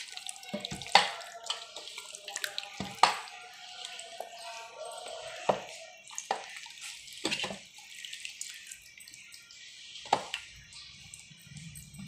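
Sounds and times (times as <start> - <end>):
wet squelching and sloshing: 0.0 - 12.0.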